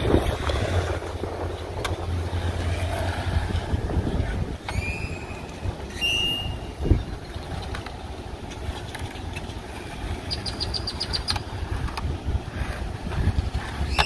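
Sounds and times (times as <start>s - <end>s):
skateboard wheels rolling on concrete: 0.0s - 14.0s.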